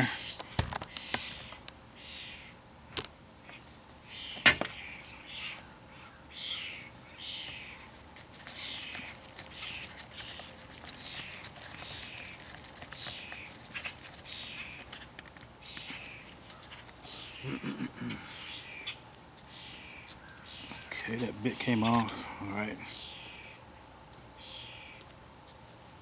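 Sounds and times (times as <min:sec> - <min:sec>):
bird calling: 0:00.8 - 0:02.6, 0:03.5 - 0:23.6, 0:24.3 - 0:25.1.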